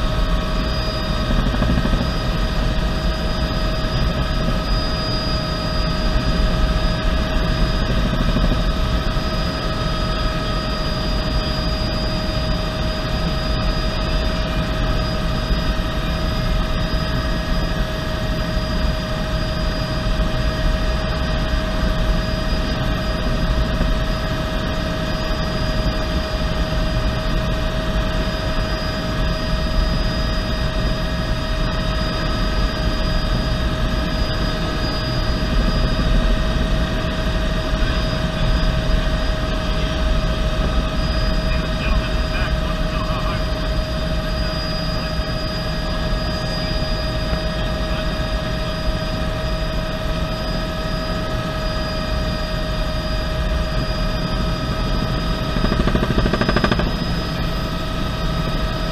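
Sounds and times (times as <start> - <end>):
helicopter rotor rumble: 0.0 - 58.9
turbine whine: 0.0 - 58.9.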